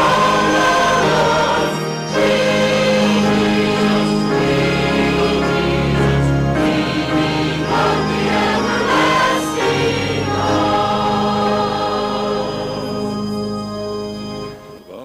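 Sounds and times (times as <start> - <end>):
congregation and choir singing hymn: 0.0 - 15.0
instrumental accompaniment: 0.0 - 15.0.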